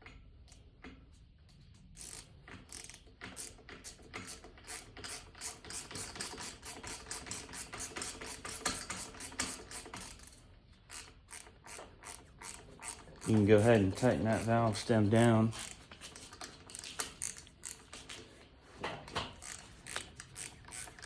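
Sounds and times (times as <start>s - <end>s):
hand ratchet clicking: 1.9s - 18.3s, 19.1s - 21.0s.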